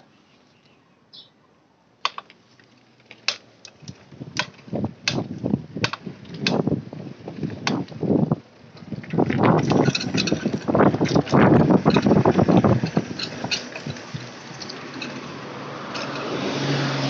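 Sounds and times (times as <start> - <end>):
bike clicks and rattles over bumps: 2.0 - 17.0
bike tyres rolling on dirt: 2.2 - 17.0.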